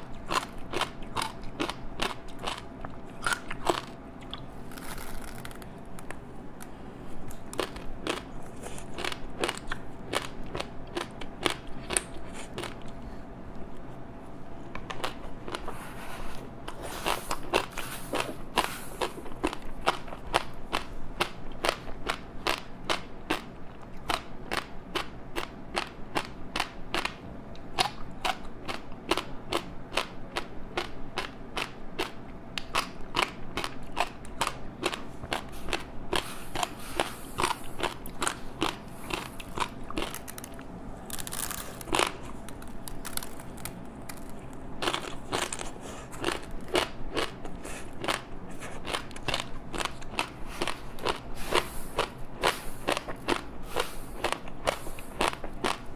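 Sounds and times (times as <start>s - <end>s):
crunchy chewing of crispy snack: 0.0s - 55.9s.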